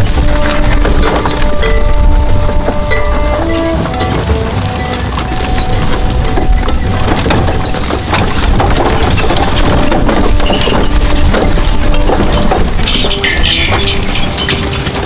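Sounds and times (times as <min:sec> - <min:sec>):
horse hooves clopping: 0:00.0 - 0:15.0
wooden wagons rattling: 0:00.0 - 0:15.0.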